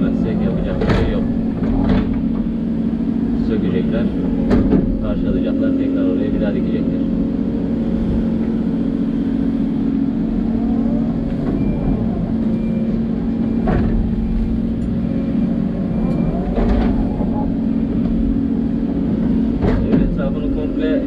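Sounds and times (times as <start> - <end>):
excavator diesel engine running: 0.0 - 21.0
hydraulics whining: 0.0 - 21.0.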